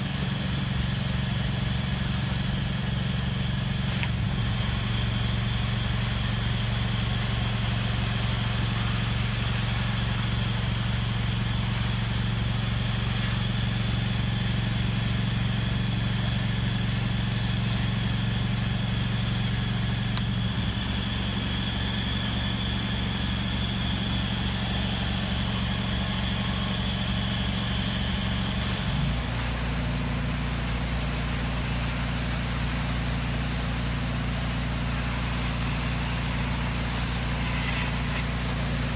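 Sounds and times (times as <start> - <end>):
pressure washer engine humming: 0.0 - 38.9
water jet hissing: 0.0 - 38.9.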